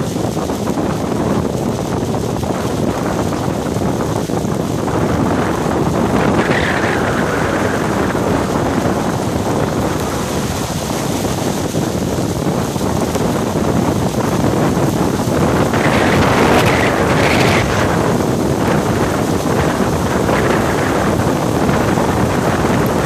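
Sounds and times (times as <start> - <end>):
hail drumming on a car: 0.0 - 23.0.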